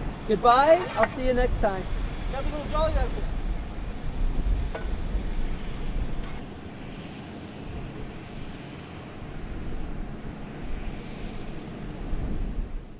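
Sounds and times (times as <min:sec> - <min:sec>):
low outdoor background rumble: 0:00.0 - 0:12.9.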